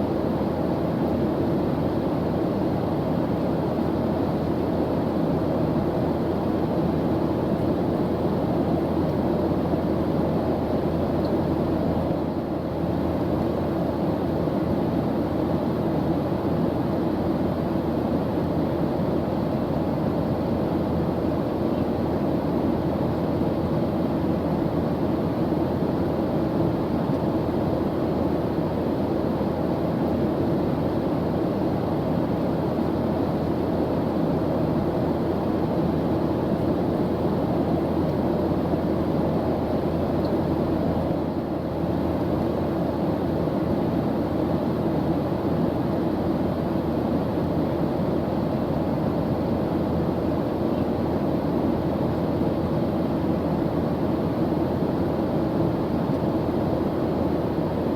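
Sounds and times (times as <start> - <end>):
airplane engine drone: 0.0 - 57.9.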